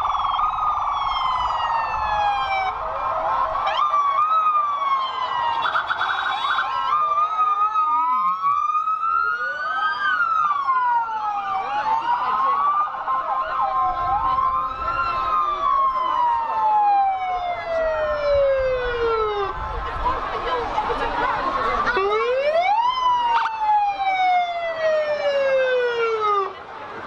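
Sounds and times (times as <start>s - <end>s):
emergency sirens wailing: 0.0s - 27.0s.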